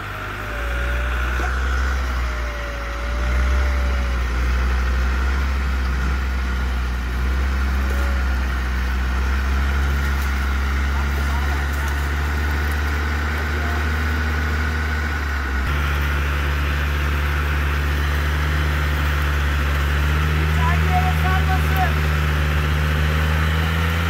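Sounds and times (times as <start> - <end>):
engine running at low revs: 0.0 - 24.0.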